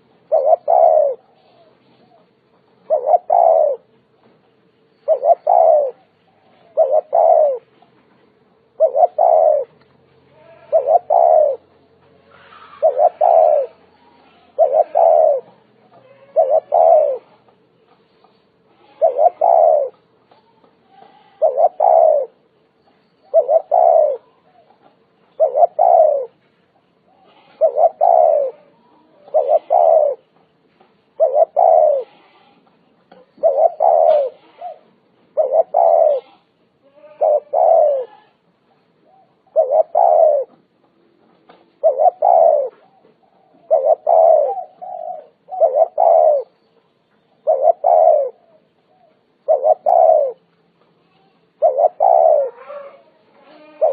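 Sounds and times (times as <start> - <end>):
dove cooing: 0.0 - 3.9, 5.0 - 8.0, 8.6 - 17.9, 18.6 - 22.5, 23.3 - 30.4, 31.1 - 46.7, 47.4 - 53.9.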